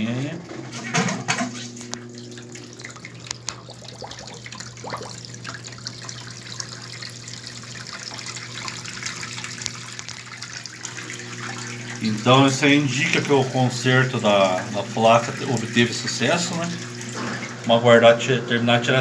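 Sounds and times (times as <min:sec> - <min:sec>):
drain pump humming: 0:00.0 - 0:19.0
water splashing into sink: 0:00.7 - 0:17.8.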